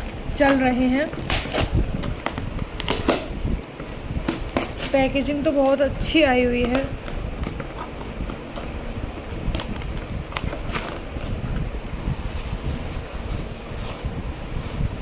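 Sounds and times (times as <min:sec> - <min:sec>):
paper packing rustling: 0:00.0 - 0:15.0.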